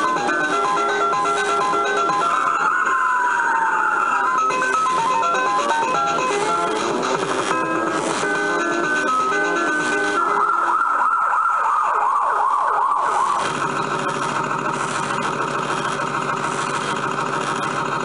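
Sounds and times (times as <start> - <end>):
electronic fire engine siren: 0.0 - 16.9
recorded engine sound: 0.0 - 18.0.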